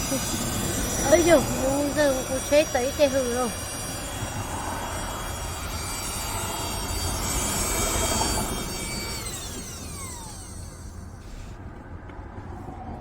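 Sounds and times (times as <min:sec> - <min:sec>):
vacuum cleaner motor whining: 0:00.0 - 0:11.6.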